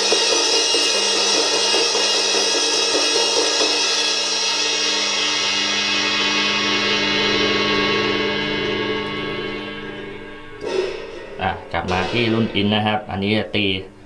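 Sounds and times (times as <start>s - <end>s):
crash cymbal struck with stick: 0.0s - 13.2s.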